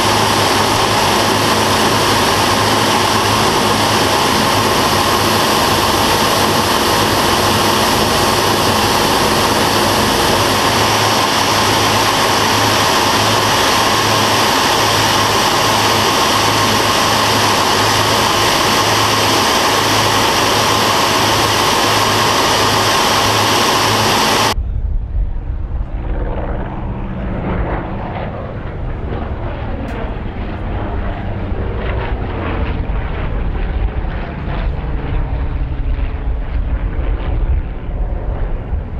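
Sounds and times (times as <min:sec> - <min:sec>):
aircraft engines droning in cockpit: 0:00.0 - 0:38.9
distant propeller aircraft rumble: 0:00.0 - 0:38.9.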